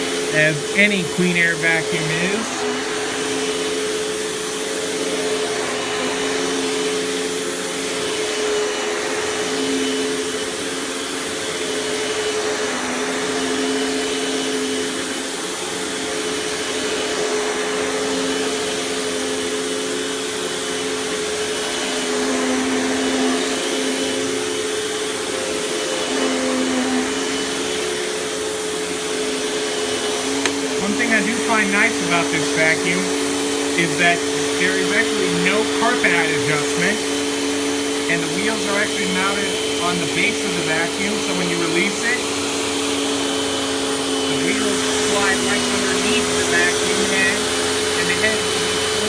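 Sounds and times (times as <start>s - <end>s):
upright vacuum running: 0.0s - 49.0s.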